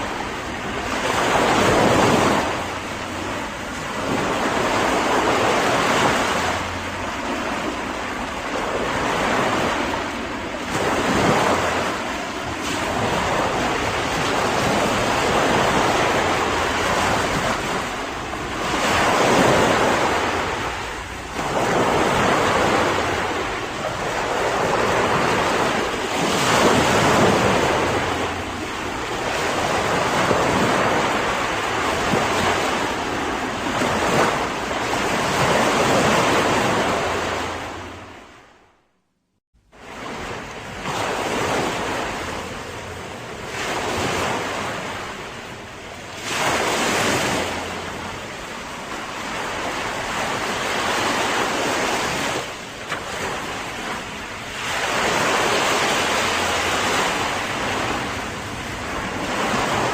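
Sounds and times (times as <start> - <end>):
ocean waves breaking on shore: 0.0 - 38.9, 39.6 - 59.9
wind: 0.0 - 59.9.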